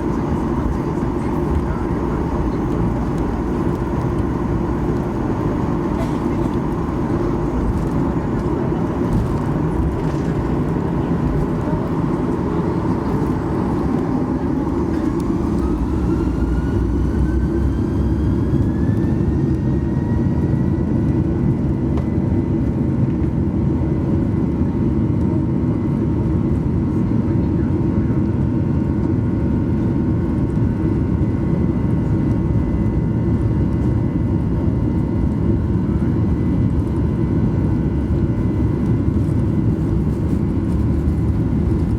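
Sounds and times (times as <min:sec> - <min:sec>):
jet engine rumble: 0:00.0 - 0:41.9
jet engine whine: 0:00.0 - 0:41.9.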